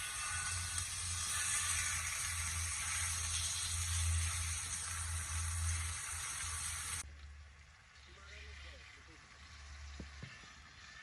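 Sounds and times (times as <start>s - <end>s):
food sizzling on a grill: 0.0s - 7.0s, 7.6s - 11.0s.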